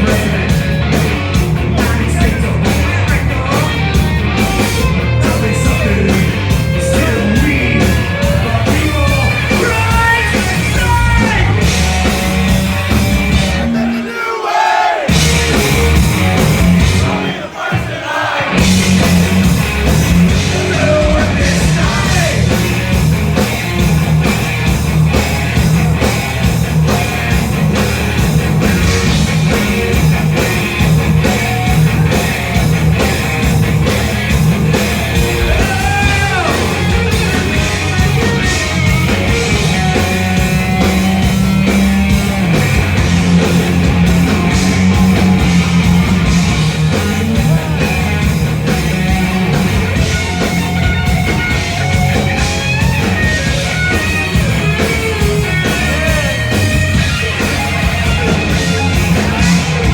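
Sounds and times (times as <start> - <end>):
metal band playing: 0.0 - 59.9.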